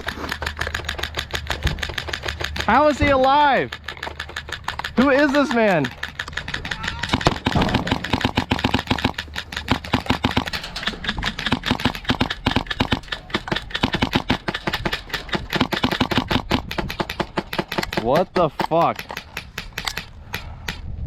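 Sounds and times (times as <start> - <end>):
airsoft guns firing bursts: 0.0 - 20.9.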